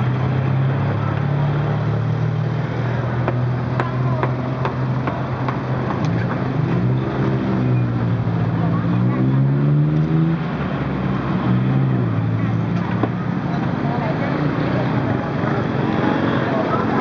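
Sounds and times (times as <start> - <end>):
faint voices and chatter: 0.0 - 17.0
vehicle engine hum: 0.0 - 17.0.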